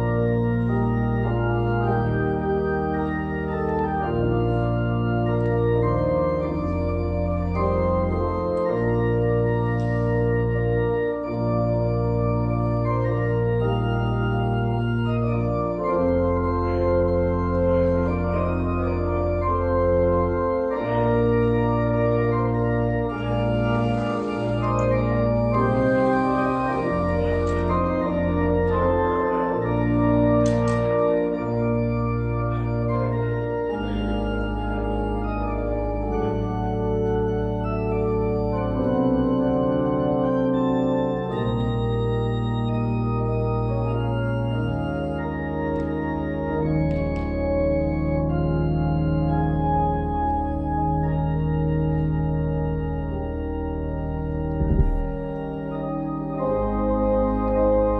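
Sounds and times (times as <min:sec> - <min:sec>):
church organ chords: 0:00.0 - 0:57.9.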